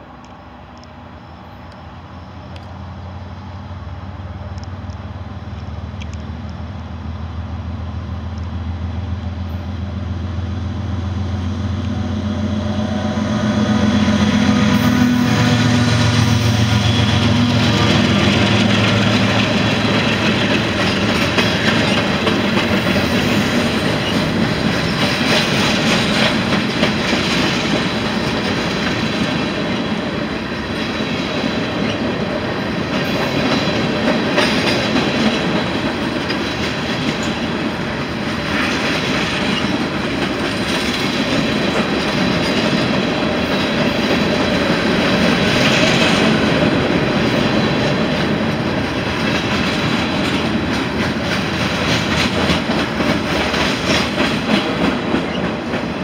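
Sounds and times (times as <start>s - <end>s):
train wheels clattering: 11.1s - 56.0s.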